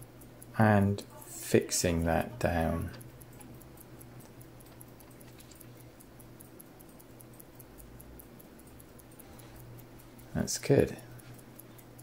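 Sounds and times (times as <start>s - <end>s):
faint high ticks: 0.0s - 12.0s.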